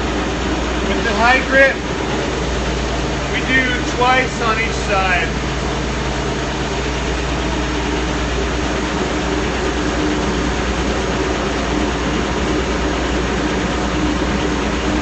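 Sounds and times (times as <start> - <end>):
wood sander running: 0.0 - 15.0.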